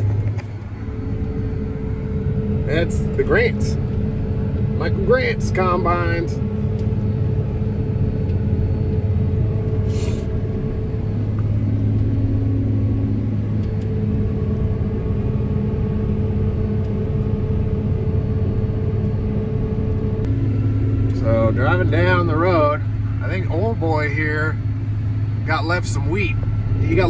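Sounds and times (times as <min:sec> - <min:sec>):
vehicle engine drone: 0:00.0 - 0:27.0.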